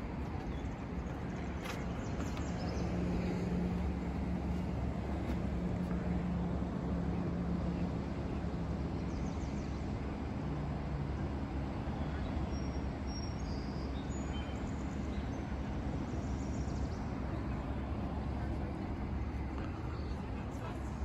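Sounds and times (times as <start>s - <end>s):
vehicle running from inside: 0.0s - 21.0s.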